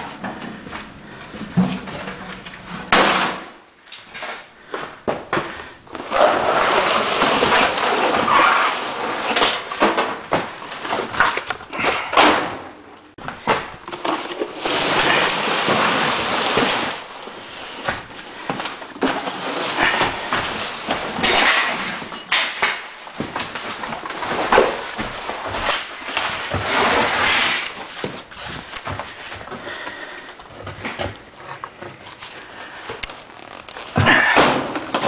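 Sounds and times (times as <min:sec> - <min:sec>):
drywall scraping and crumbling: 0:00.0 - 0:35.0.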